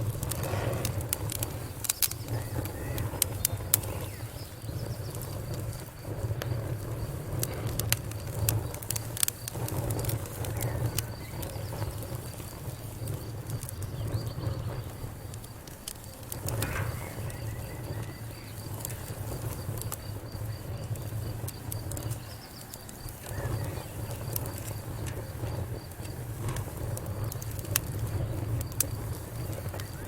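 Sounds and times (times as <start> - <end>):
low rumble of flame: 0.0 - 30.0
wood fire crackling and popping: 0.0 - 30.0.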